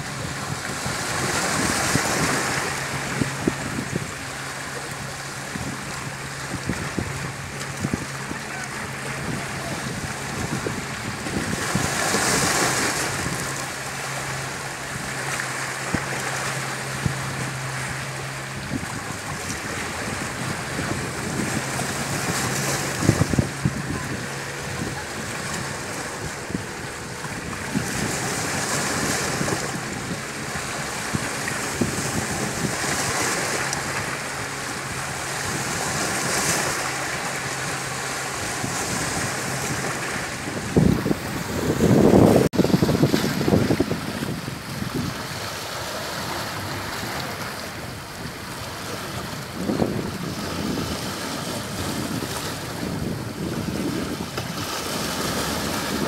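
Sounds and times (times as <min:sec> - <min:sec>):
sea waves washing ashore: 0:00.0 - 0:56.0.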